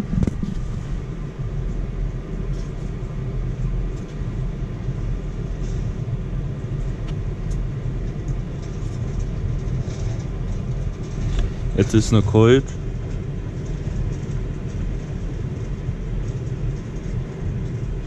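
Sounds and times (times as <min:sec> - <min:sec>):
blower fan running: 0:00.0 - 0:18.0
low rumble: 0:00.0 - 0:18.0.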